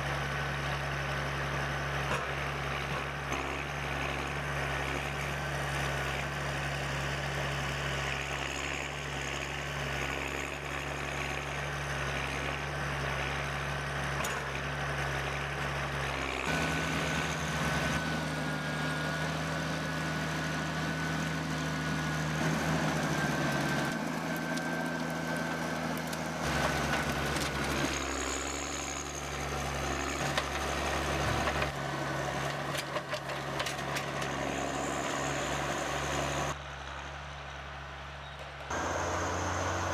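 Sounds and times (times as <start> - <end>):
heavy machinery engines running: 0.0 - 39.9.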